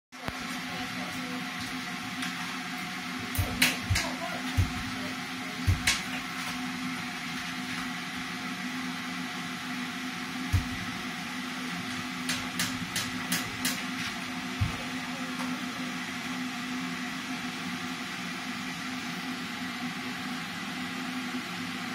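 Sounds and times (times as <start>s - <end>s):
steady low hum: 0.2s - 21.9s.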